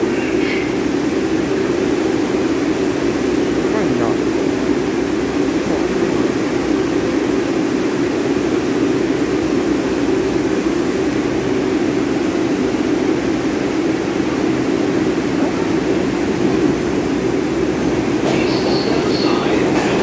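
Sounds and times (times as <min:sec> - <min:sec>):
subway train drone: 0:00.0 - 0:20.0.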